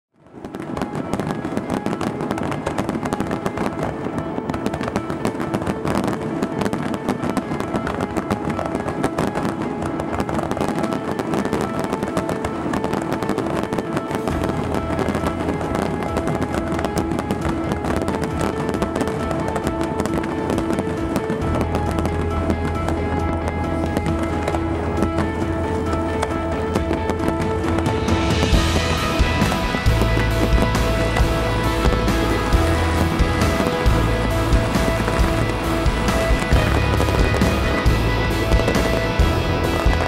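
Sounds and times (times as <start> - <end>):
fireworks bursting and crackling: 0.2 - 40.0
music with sustained tones: 0.2 - 40.0.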